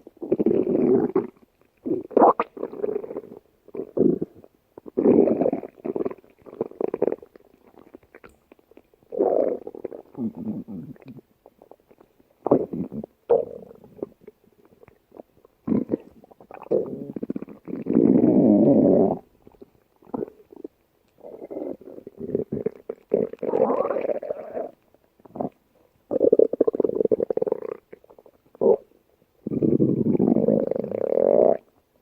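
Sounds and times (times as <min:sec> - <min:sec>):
stomach growling: 0:00.2 - 0:31.7.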